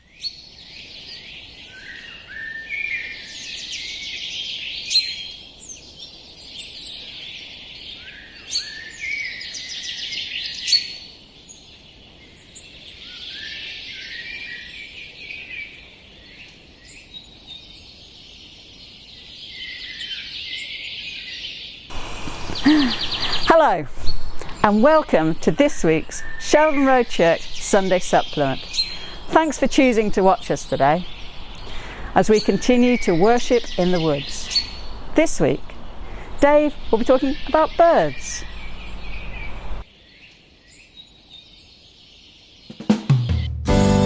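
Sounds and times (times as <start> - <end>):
songbird singing with trills: 0.0 - 42.8.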